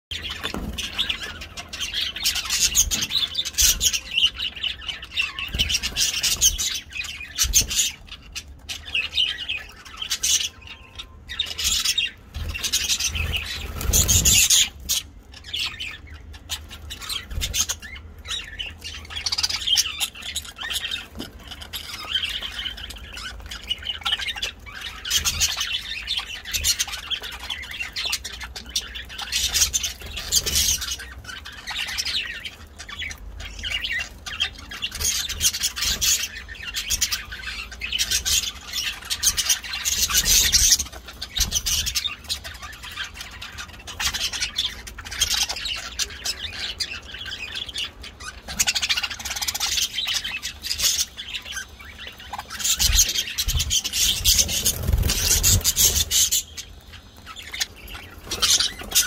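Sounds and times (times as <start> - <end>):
budgerigars chirping and squawking: 0.1 - 59.0.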